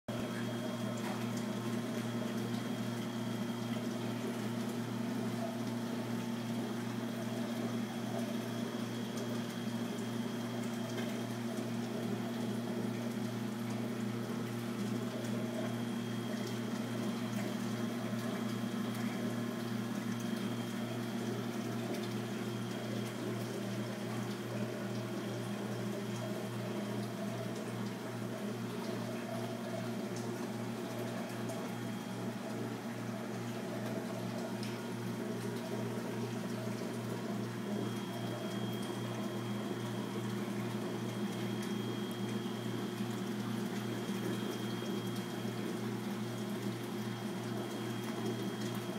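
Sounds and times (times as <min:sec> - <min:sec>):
circulating water: 0:00.1 - 0:48.9
electric pump hum: 0:00.1 - 0:48.9.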